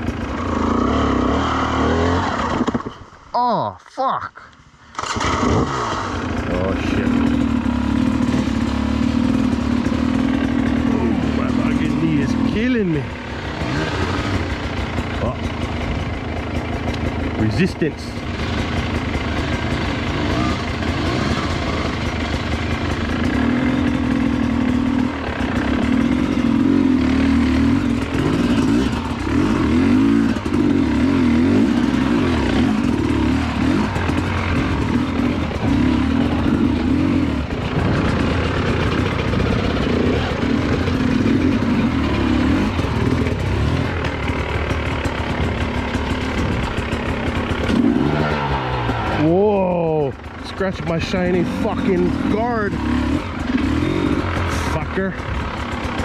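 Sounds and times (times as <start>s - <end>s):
dirt bike engine revving: 0.0s - 2.9s, 4.9s - 56.0s.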